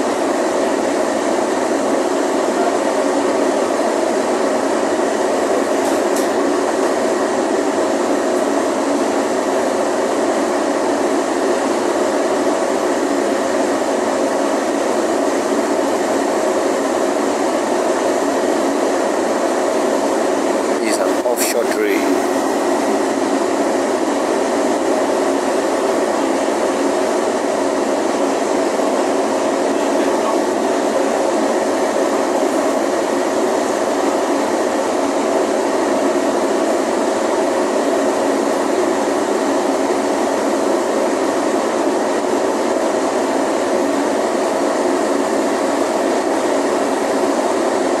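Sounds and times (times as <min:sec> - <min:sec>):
machinery and ventilation drone: 0:00.0 - 0:48.0.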